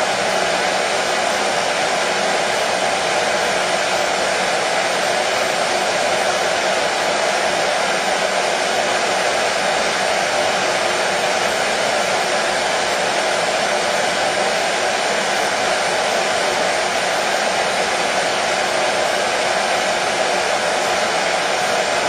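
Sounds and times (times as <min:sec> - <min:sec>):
hair dryer blowing: 0:00.0 - 0:22.0.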